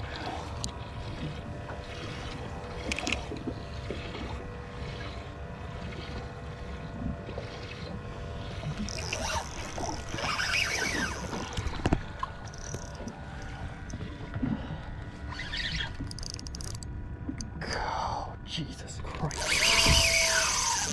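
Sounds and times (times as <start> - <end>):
faint hum: 0.0 - 20.9
wind and water rumble: 0.0 - 20.9.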